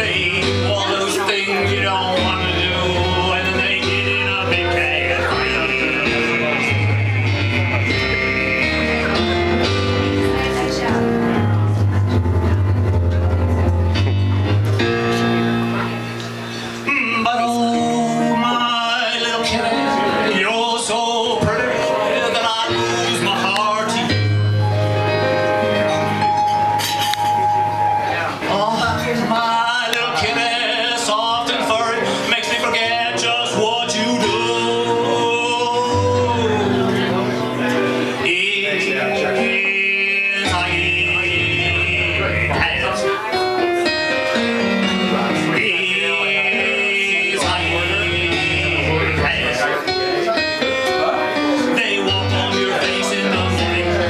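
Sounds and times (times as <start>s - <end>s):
man singing: 0.0s - 11.4s, 16.5s - 25.9s, 28.2s - 54.0s
electronic keyboard: 0.0s - 54.0s.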